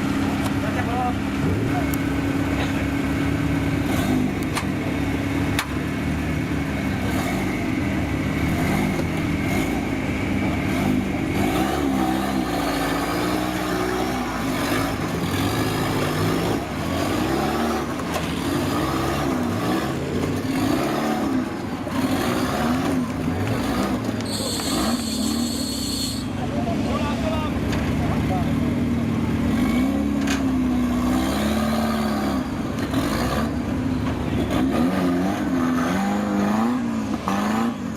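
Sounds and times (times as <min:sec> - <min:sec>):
off-road engine revving: 0:00.0 - 0:37.9.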